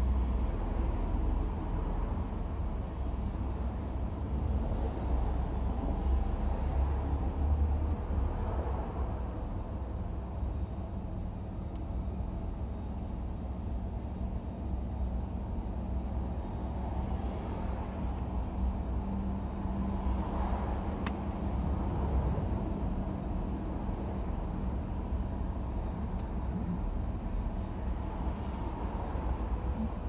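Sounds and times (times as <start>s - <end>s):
car engines rumbling: 0.0s - 30.0s.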